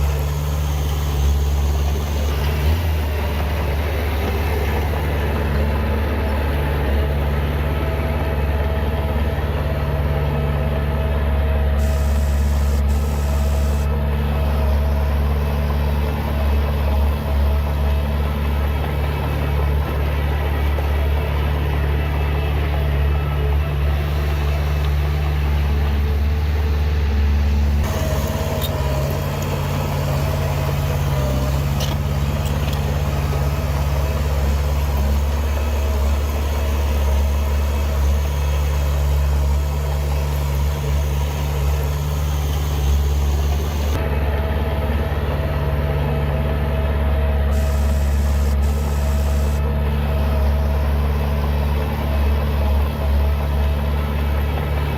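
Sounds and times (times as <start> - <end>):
heavy diesel engine humming: 0.0 - 54.9.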